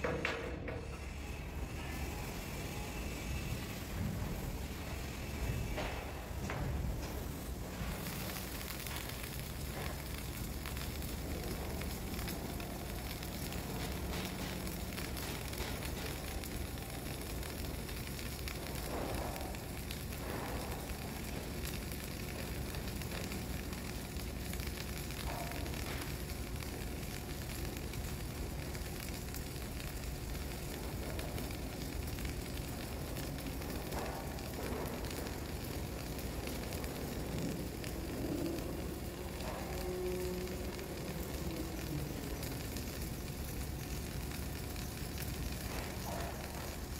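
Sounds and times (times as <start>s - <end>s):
arc welder crackling sizzle: 0.0s - 46.9s.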